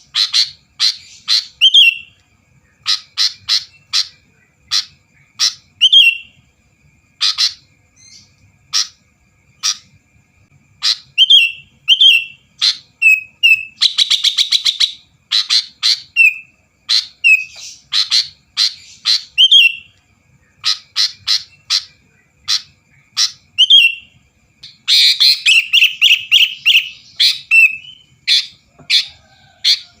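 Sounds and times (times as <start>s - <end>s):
bird singing: 0.0s - 30.0s.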